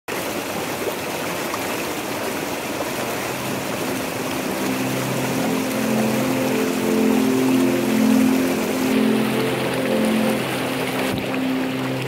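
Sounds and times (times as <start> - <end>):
waterfall rushing and splashing: 0.1 - 12.0.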